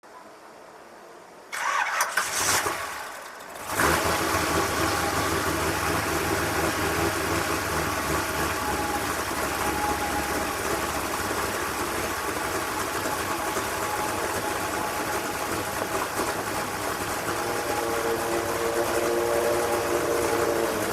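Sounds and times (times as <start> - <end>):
car engine starting: 1.5 - 20.9.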